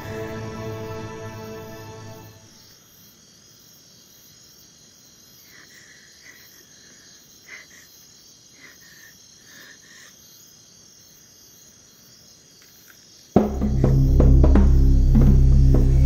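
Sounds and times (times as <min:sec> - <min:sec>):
crickets and insects chirring: 0:00.0 - 0:16.0.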